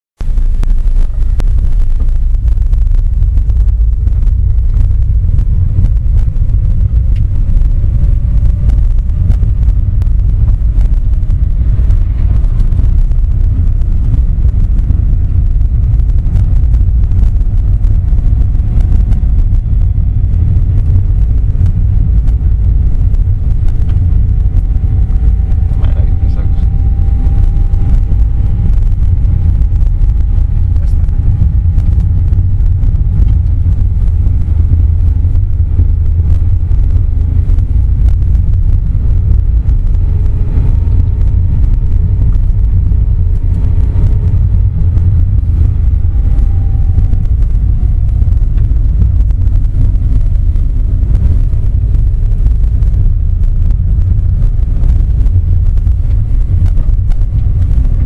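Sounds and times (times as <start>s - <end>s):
engine and tyre rumble: 0.0s - 58.0s
faint engine tones: 0.2s - 58.0s.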